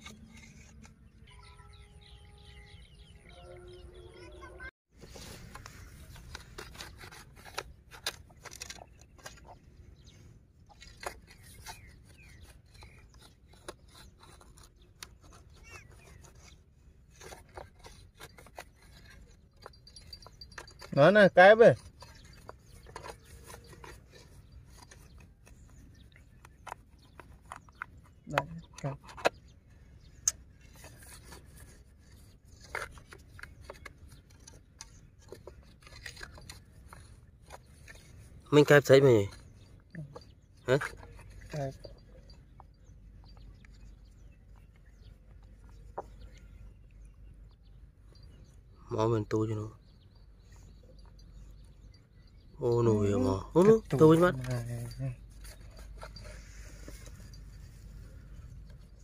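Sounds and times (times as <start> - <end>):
wire scraping in dry earth: 0.0 - 59.0.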